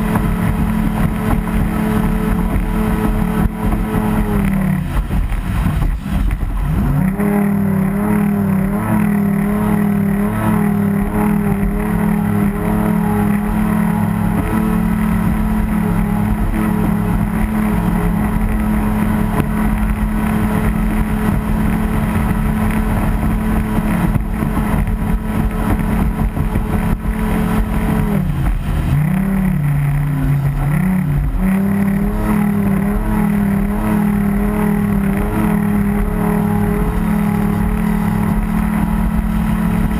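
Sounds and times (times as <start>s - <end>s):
boat engine running hard: 0.0s - 39.9s.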